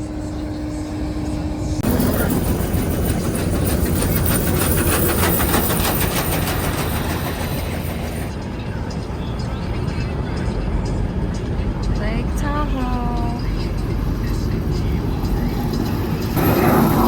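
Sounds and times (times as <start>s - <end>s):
tyres rumbling over rough road: 1.4s - 17.0s.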